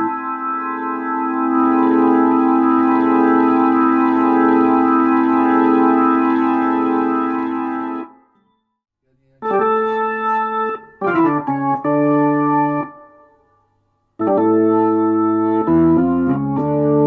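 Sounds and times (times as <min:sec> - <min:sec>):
organ chords: 0:00.0 - 0:08.3, 0:09.4 - 0:13.6, 0:14.2 - 0:17.0.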